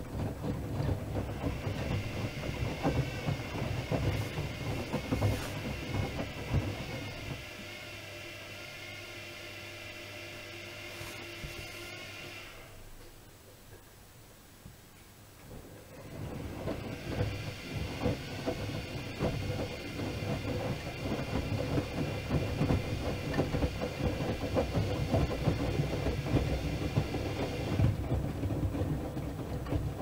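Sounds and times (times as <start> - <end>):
washing machine laundry tumbling: 0.0 - 8.2, 10.4 - 12.8, 15.5 - 30.0
washing machine high whine: 0.0 - 13.0, 15.5 - 30.0.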